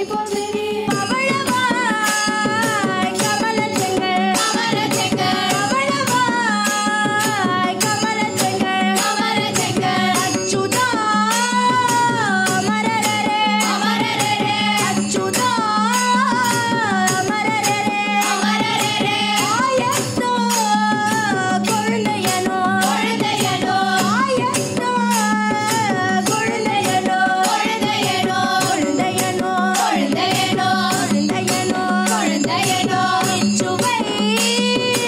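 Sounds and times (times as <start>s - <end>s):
women singing in chorus: 0.0s - 35.0s.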